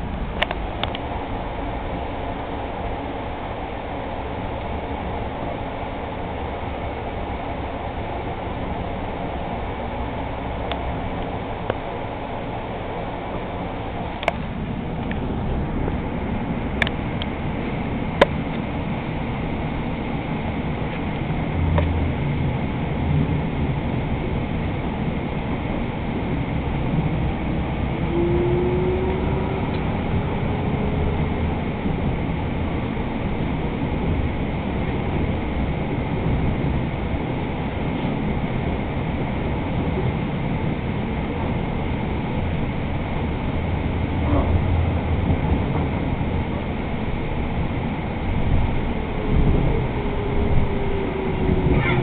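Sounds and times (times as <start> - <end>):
faint rising whine: 0.0 - 52.0
light rail car rumbling on track: 0.0 - 52.0.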